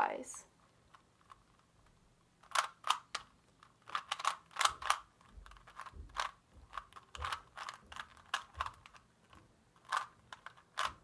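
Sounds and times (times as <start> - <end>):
puzzle cube layers clacking: 0.8 - 11.0.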